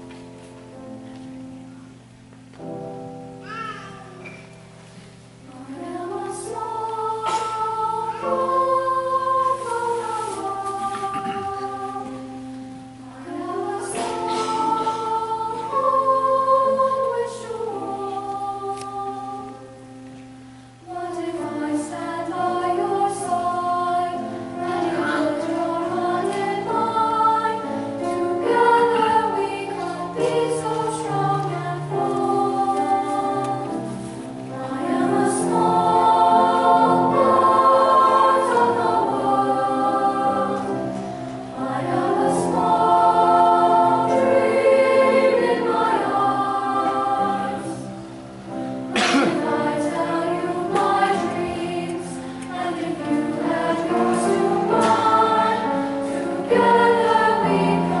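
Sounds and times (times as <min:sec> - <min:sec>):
choir singing: 0:04.2 - 0:20.0, 0:20.8 - 0:58.0.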